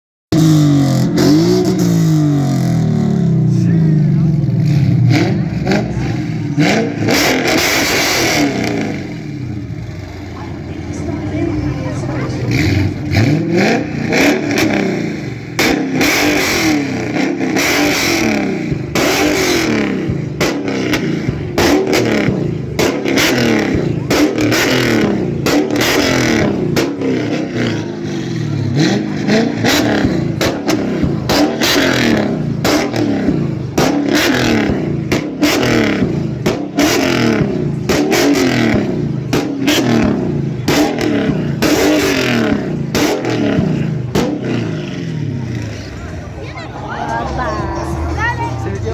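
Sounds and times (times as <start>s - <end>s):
car engines revving: 0.3s - 48.9s.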